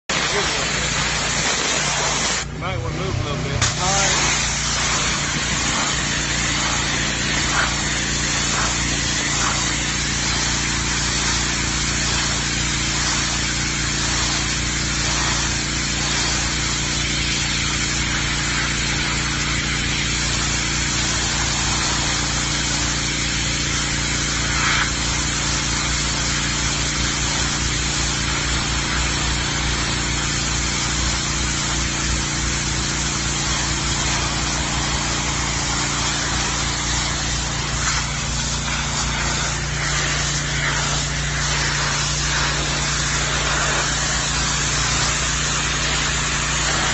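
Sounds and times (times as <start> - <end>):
pressure washer engine drone: 0.0 - 46.9
water spraying onto concrete: 0.0 - 46.9.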